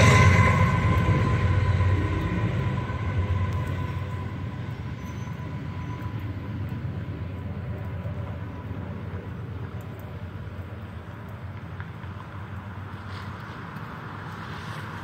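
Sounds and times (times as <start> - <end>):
train rumbling: 0.0 - 13.6.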